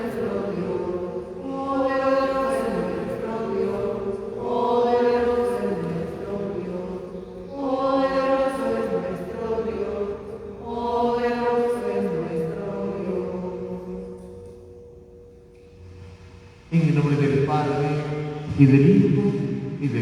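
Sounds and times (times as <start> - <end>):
voices singing a hymn: 0.0 - 18.5.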